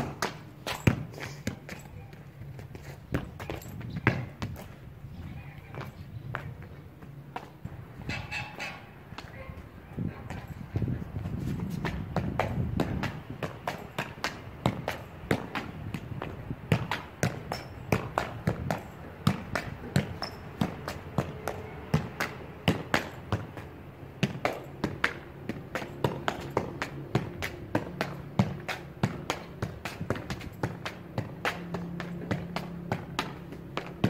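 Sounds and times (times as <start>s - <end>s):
football thudding on feet: 0.0s - 7.7s, 10.2s - 34.0s.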